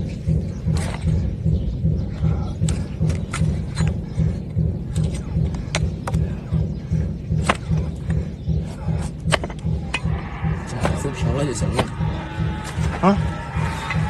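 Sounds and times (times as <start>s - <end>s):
low regular thumping: 0.0s - 14.0s.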